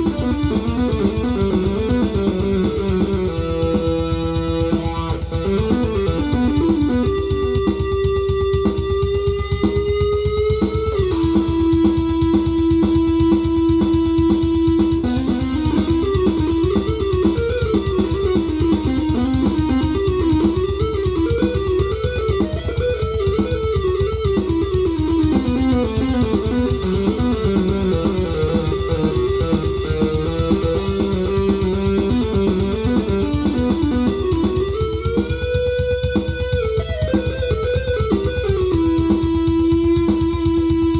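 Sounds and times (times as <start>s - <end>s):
fast steady synth pulse: 0.0s - 9.5s, 10.7s - 40.8s
synthesizer guitar-like lead melody: 0.0s - 40.9s.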